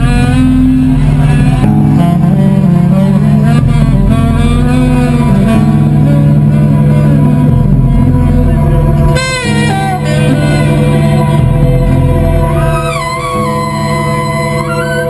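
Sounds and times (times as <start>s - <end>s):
electronic music with pulsing bass: 0.0s - 15.0s
saxophone playing: 0.0s - 15.0s.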